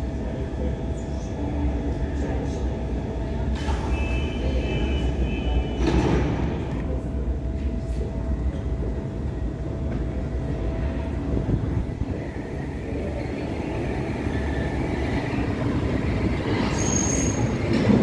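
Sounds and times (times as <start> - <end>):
train low rumble and hum: 0.0 - 18.0.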